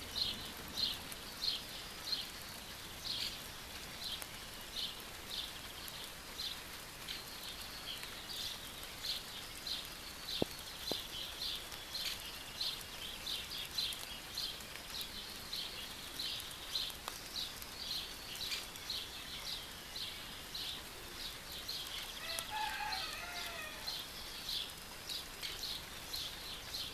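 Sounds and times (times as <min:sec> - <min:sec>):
birds chirping: 0:00.1 - 0:26.9.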